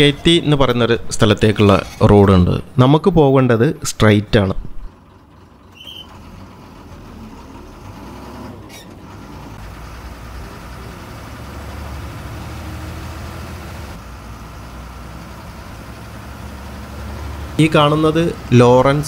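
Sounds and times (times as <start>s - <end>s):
bus diesel engine running: 0.0s - 19.0s
road noise: 0.0s - 19.0s.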